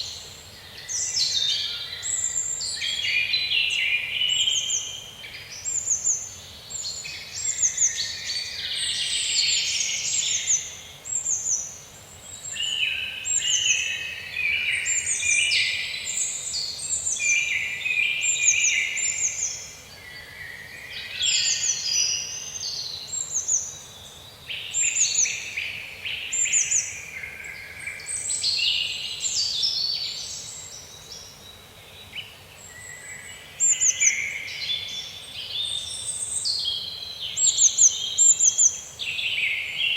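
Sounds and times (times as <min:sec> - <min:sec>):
songbirds singing in chorus: 0:00.0 - 0:39.9.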